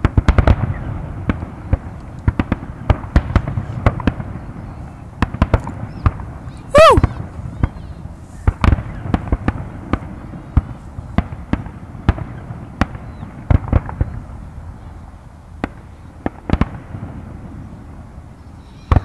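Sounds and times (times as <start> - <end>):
fireworks bangs: 0.0 - 7.8, 8.4 - 14.8, 15.6 - 18.2.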